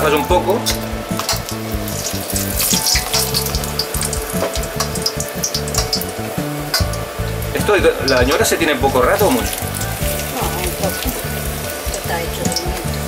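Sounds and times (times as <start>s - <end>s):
peppers sizzling in hot oil: 0.0s - 13.0s
metal spoon tapping pan: 0.6s - 7.0s, 7.6s - 13.0s.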